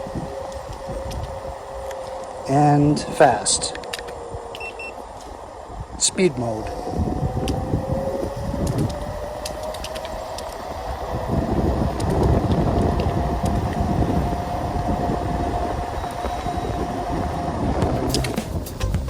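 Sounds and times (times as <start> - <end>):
electric scooter motor whine: 0.0 - 19.0
wheel rumble: 0.0 - 19.0
wind: 0.0 - 19.0.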